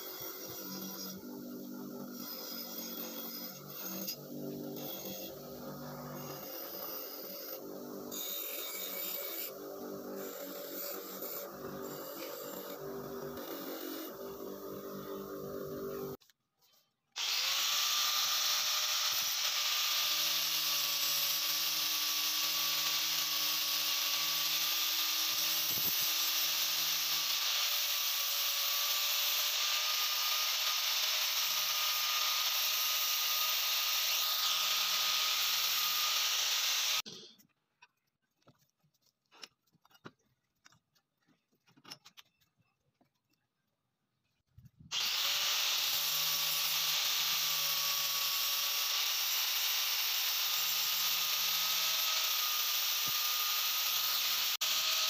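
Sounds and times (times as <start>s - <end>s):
angle grinder grinding metal: 0.0s - 16.2s, 17.2s - 37.4s, 44.9s - 55.0s.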